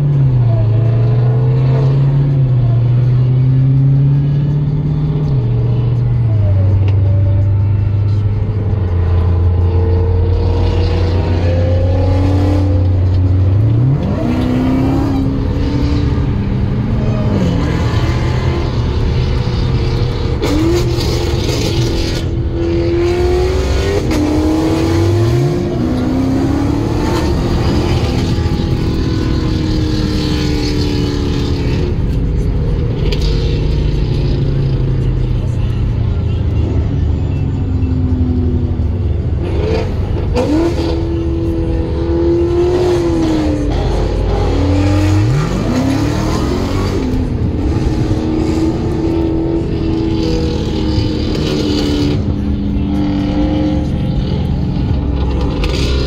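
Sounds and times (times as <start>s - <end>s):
car engine accelerating hard: 0.0s - 37.1s, 37.8s - 56.0s.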